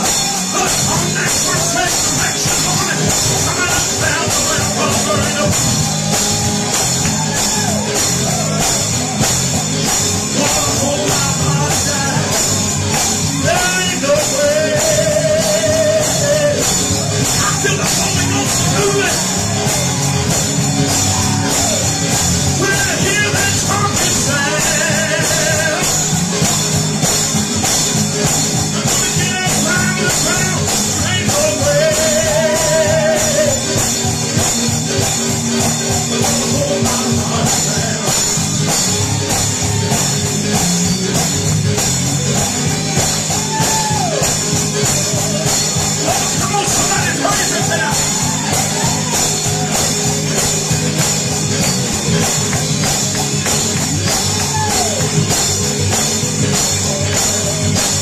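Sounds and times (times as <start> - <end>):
voices singing: 0.0 - 27.5, 28.3 - 41.3, 42.4 - 58.0
band playing fast gospel song: 0.0 - 58.0.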